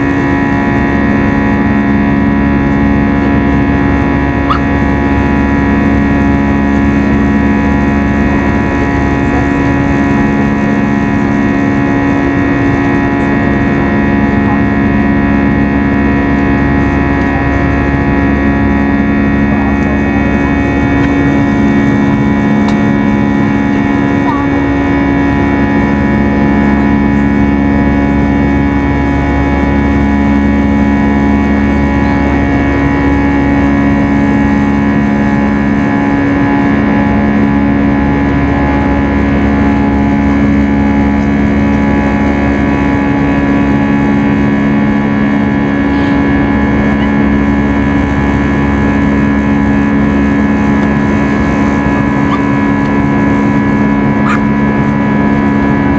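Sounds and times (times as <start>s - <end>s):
aircraft engine drone: 0.0s - 55.9s
airflow rush: 0.0s - 55.9s
low hum: 0.0s - 55.9s.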